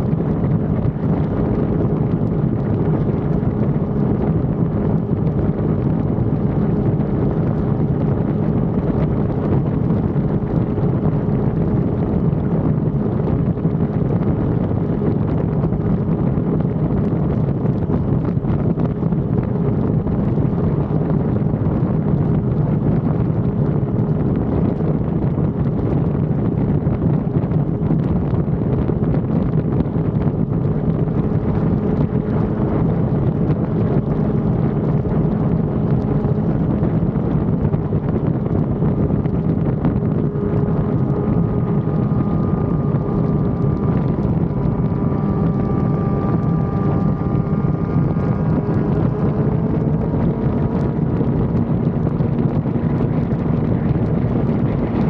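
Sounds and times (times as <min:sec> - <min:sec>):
motorcycle engine steady: 0:00.0 - 0:55.0
wind rush on microphone: 0:00.0 - 0:55.0.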